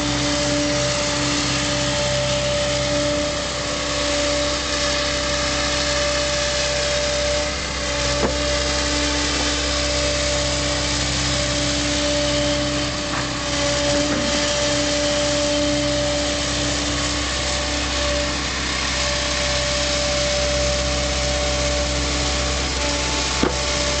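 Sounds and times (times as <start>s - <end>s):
excavator engine and hydraulics: 0.0s - 24.0s
steady whine: 0.0s - 24.0s.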